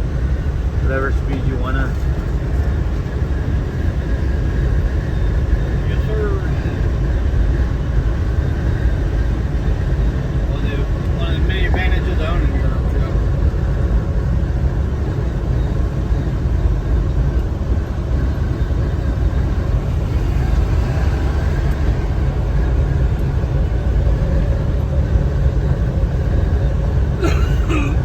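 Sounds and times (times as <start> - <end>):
car road noise drone: 0.0 - 28.0.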